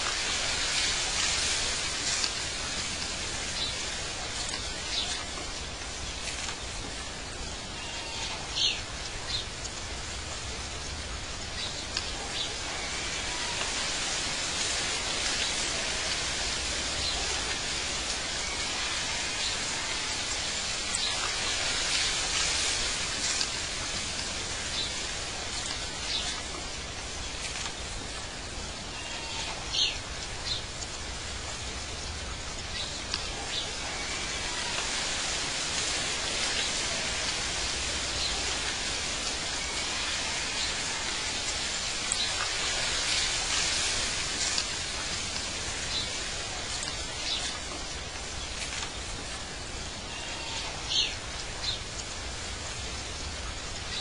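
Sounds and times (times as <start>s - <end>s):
steady ambient hiss: 0.0s - 54.0s.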